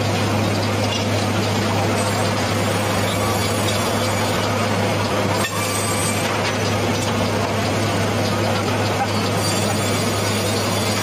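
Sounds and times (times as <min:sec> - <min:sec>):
low motor hum: 0:00.0 - 0:09.1
sawmill machinery running: 0:00.0 - 0:11.0.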